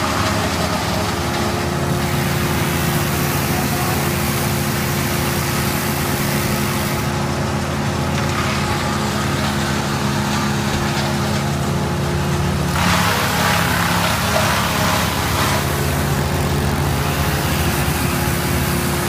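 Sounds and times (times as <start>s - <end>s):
engine running steadily: 0.0s - 19.0s
rough noisy machine sound: 0.0s - 19.0s.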